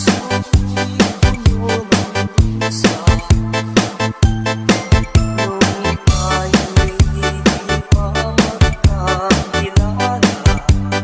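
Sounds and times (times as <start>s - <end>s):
dance music with bass line: 0.0s - 11.0s.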